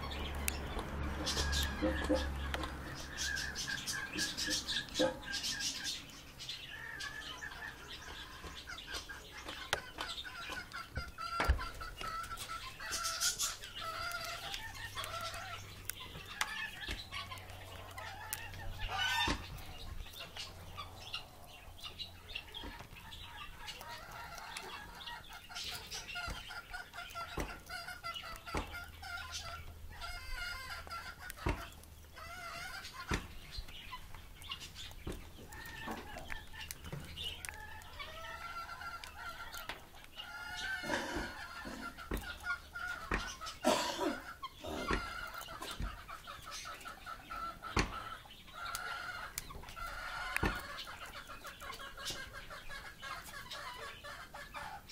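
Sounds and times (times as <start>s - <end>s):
parrots clucking and chattering: 0.0s - 54.9s.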